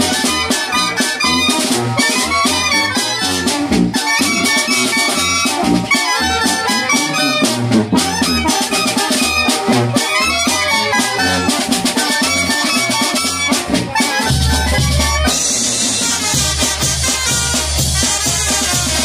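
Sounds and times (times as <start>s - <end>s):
bass drum beat: 0.0s - 19.0s
brass band playing: 0.0s - 19.0s.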